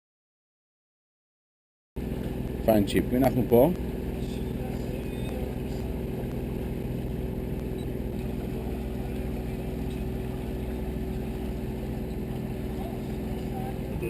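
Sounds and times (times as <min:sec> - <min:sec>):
boat engine droning: 0:02.0 - 0:14.0.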